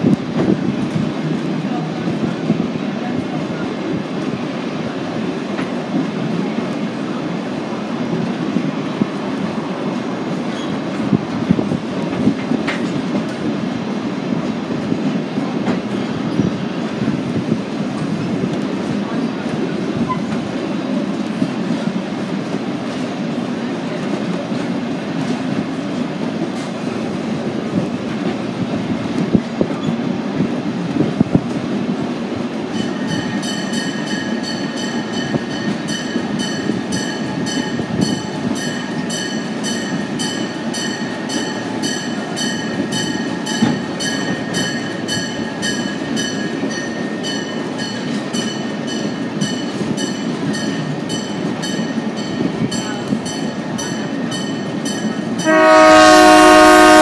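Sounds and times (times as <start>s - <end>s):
train car rumbling on track: 0.0s - 57.0s.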